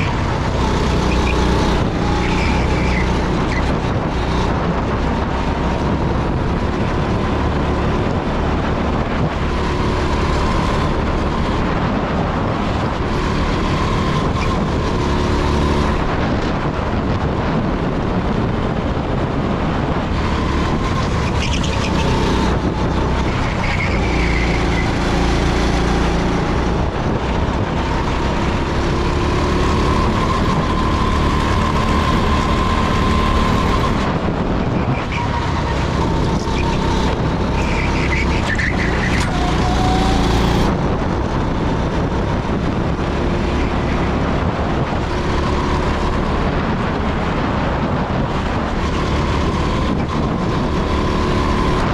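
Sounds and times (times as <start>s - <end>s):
kart engine running hard: 0.0s - 51.9s.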